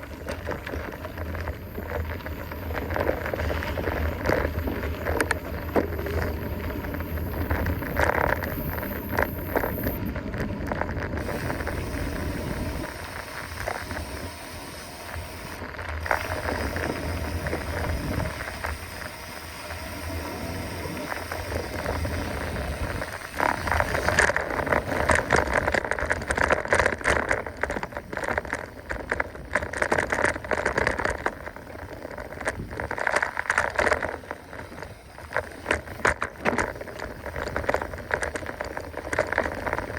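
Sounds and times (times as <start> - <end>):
bike rattling and clicking: 0.0 - 39.9
bike tyres rolling on dirt: 0.0 - 39.9.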